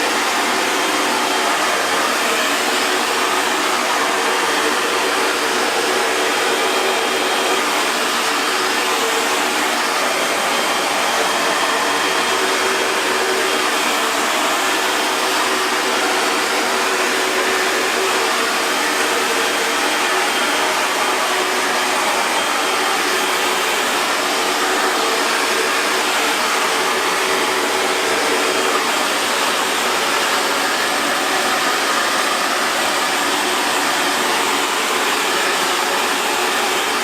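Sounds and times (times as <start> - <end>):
hair dryer blowing: 0.0 - 37.0.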